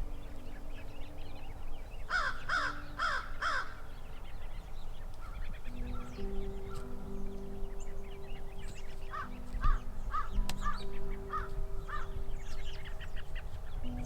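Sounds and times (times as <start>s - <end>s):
bird calling loudly: 0.1s - 14.0s.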